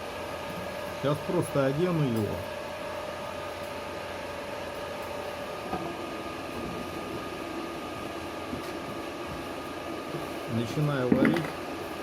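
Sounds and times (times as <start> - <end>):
welding inverter fan humming: 0.0 - 12.0.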